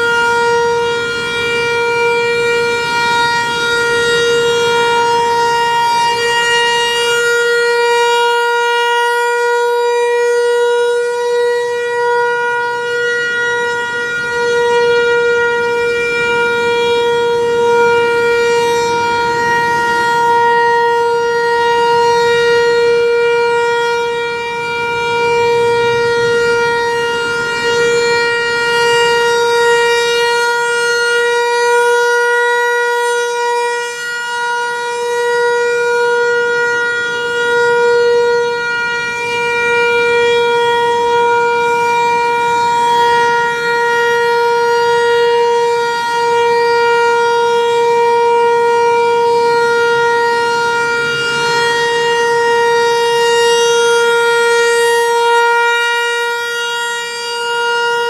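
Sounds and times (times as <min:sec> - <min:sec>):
outdoor warning siren steady tone: 0:00.0 - 0:58.0.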